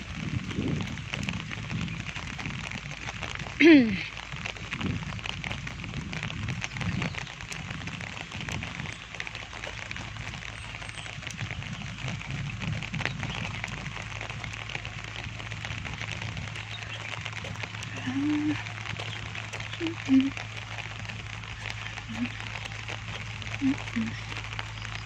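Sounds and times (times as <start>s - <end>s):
low rumbles on microphone: 0.0s - 25.0s
rain pattering: 0.0s - 25.0s.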